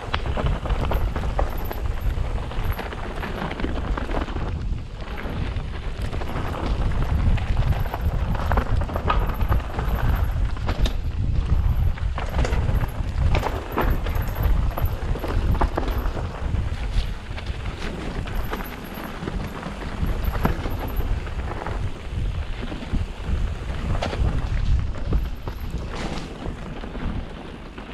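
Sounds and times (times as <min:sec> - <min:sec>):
bike clattering: 0:00.0 - 0:27.9
tyres crunching over trail: 0:00.0 - 0:27.9
wind buffeting microphone: 0:00.0 - 0:27.9.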